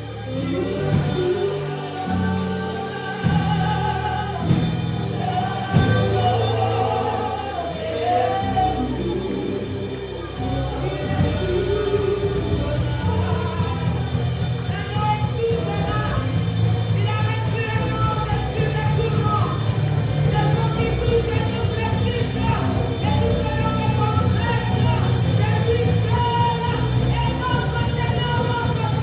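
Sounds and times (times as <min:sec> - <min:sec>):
voices singing: 0:00.0 - 0:29.0
worship band playing: 0:00.0 - 0:29.0.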